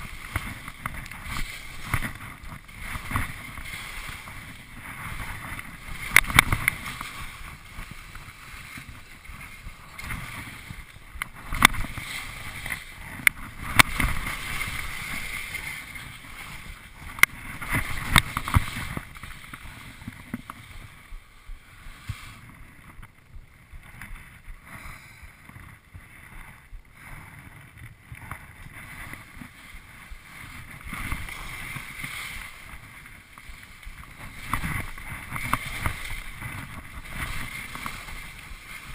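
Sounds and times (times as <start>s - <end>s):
skis scraping over snow: 0.0s - 38.9s.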